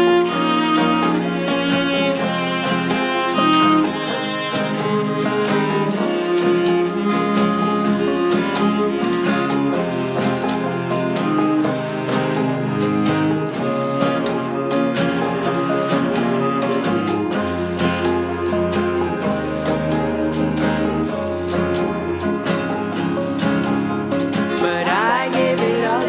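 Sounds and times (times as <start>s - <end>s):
bowed cello melody: 0.0s - 26.0s
strummed acoustic guitar: 0.0s - 26.0s.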